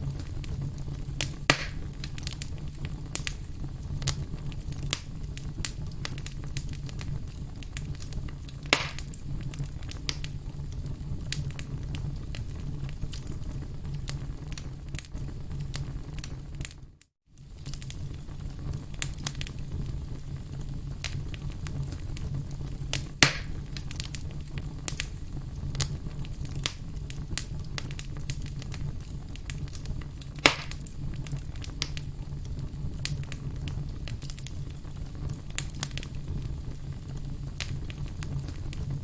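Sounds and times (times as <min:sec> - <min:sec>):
firewood crackling and popping: 0:00.0 - 0:39.0
low rumble of flames: 0:00.0 - 0:39.0.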